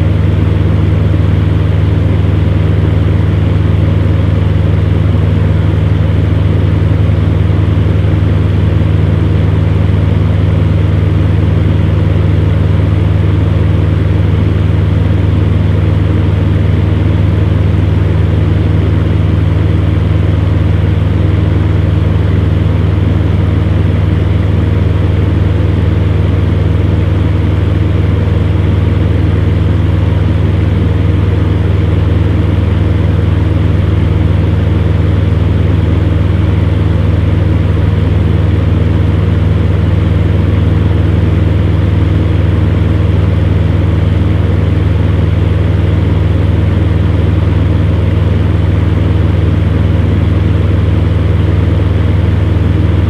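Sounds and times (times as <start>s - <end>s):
fan heater humming: 0.0s - 53.0s.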